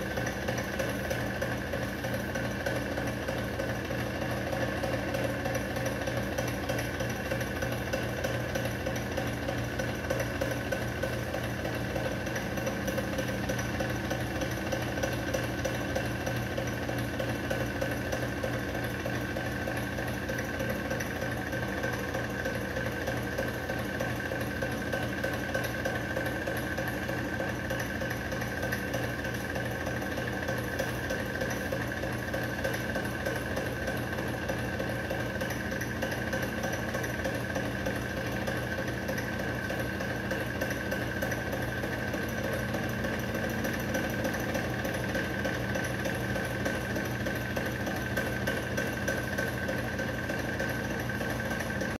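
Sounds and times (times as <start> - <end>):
fan engine mechanical hum: 0.0 - 52.0.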